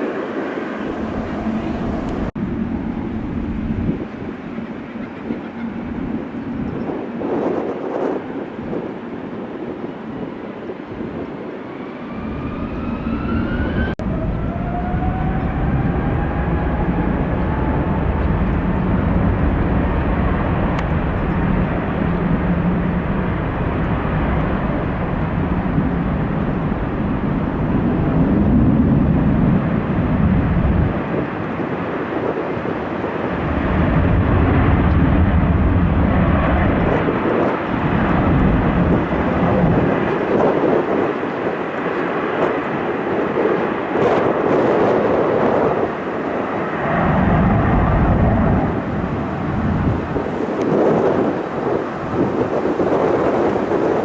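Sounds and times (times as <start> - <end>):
jet engines rumbling: 0.0 - 54.0
thin jet engine whine: 0.0 - 54.0.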